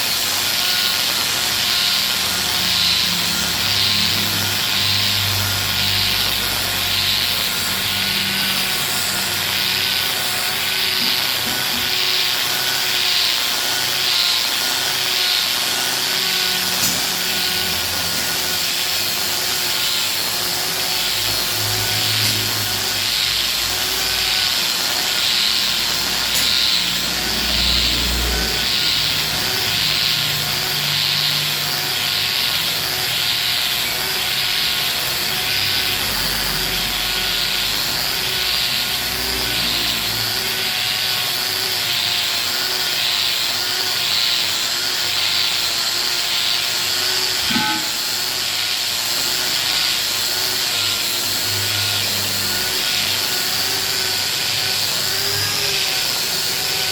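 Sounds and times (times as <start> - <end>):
angle grinder sanding wood: 0.0 - 56.9.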